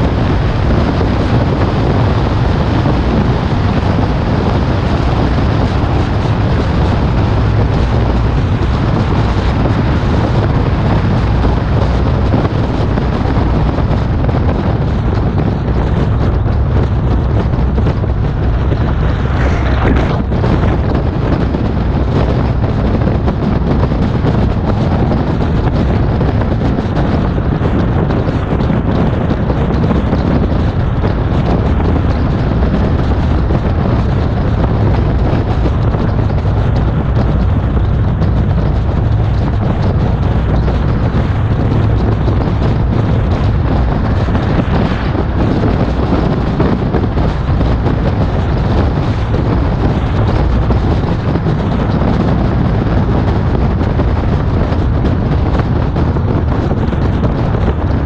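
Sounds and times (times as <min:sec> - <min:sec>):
road and vehicle rumble: 0:00.0 - 0:58.0
wind buffeting microphone: 0:00.0 - 0:58.0.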